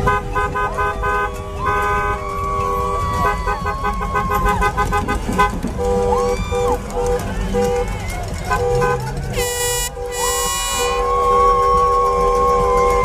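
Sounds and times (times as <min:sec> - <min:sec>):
long car horn blasts: 0:00.0 - 0:07.9, 0:08.5 - 0:13.0
car horns beeping: 0:00.0 - 0:13.0.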